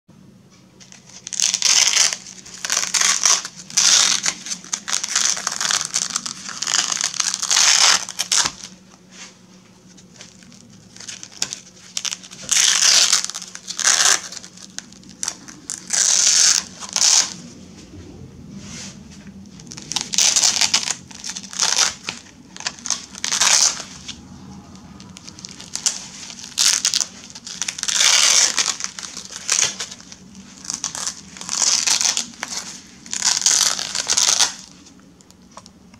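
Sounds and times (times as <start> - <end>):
velcro straps ripping open: 0.9 - 8.8, 10.2 - 17.4, 19.6 - 24.2, 25.0 - 34.8.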